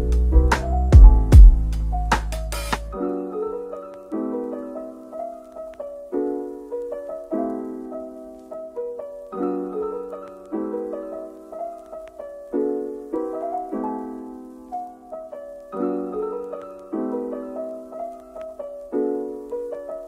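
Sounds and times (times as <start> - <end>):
piano chords ringing: 0.0 - 20.0.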